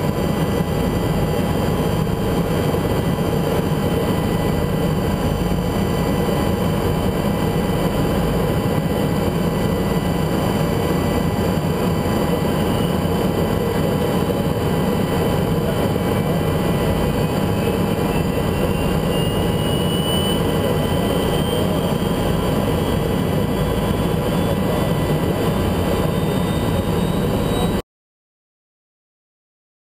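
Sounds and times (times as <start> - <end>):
faint high whine: 0.0 - 27.8
helicopter engines running: 0.0 - 27.8.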